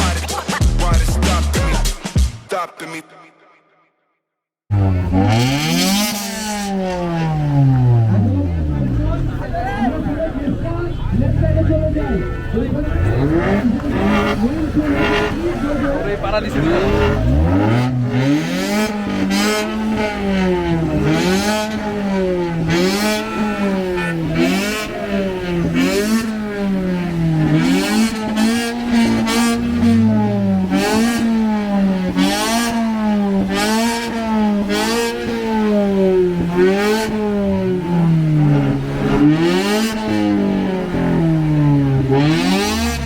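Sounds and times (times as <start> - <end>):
car engine revving: 4.7 - 43.0.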